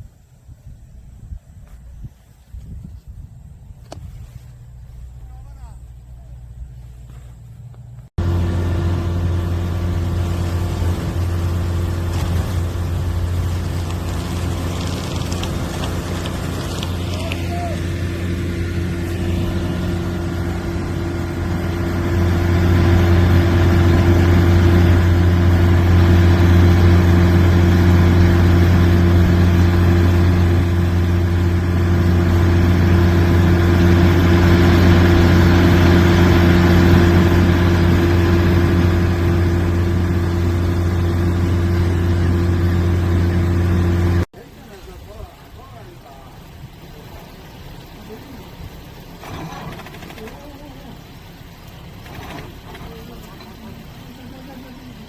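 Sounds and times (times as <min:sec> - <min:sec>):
threshing machine droning: 0:08.2 - 0:55.0.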